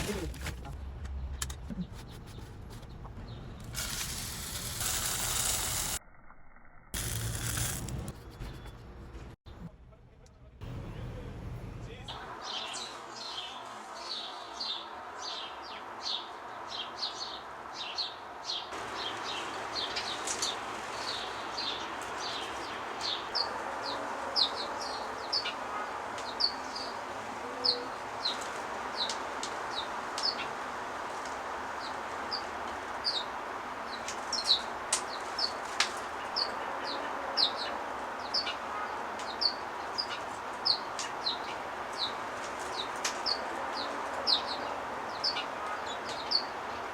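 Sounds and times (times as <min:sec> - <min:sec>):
sparrows chirping: 0:01.2 - 0:05.3, 0:12.1 - 0:46.9.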